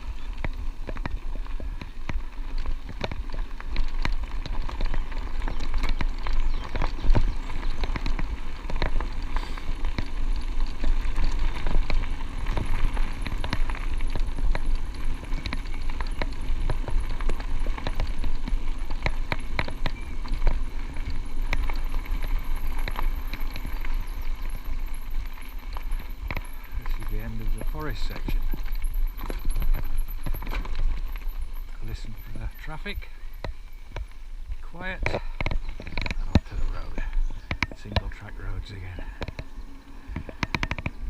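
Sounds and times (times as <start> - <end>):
bike tyres crunching over gravel: 0.0 - 41.0.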